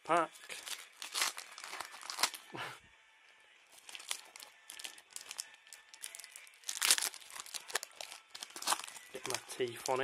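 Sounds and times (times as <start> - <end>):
foil wrapper crinkling: 0.4 - 2.5, 3.8 - 10.0.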